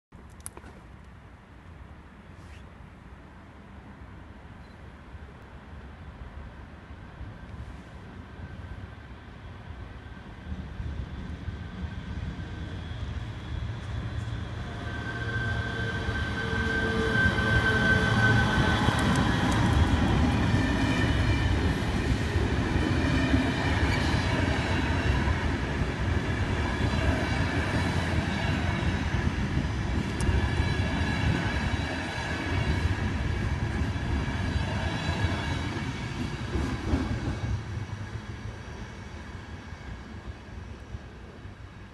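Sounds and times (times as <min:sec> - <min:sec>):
train wheels rumbling on rail: 0:07.3 - 0:41.9.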